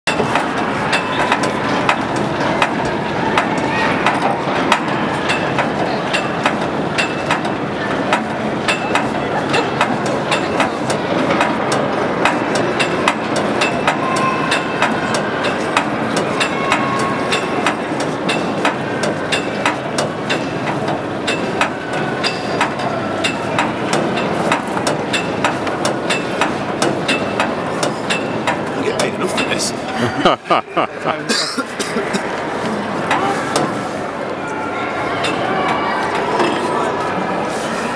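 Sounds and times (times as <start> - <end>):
murmur of a large hall: 0.1 - 37.9.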